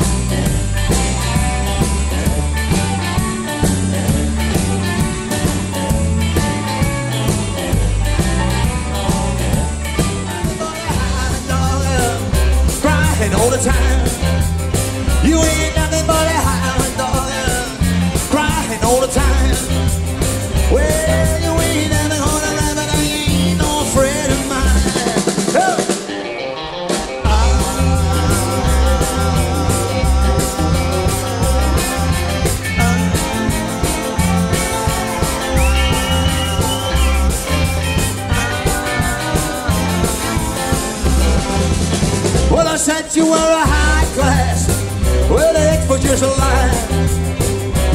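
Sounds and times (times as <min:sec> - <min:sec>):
electric lead guitar: 0:00.0 - 0:47.9
rock band playing: 0:00.0 - 0:47.9.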